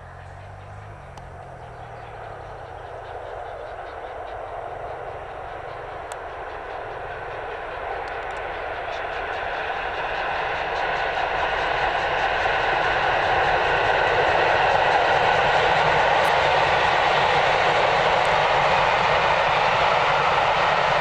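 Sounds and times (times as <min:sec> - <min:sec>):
steam train approaching: 0:00.0 - 0:21.0.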